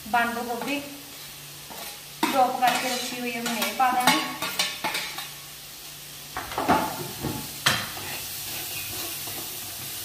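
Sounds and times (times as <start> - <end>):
vegetables sizzling: 0.0 - 10.0.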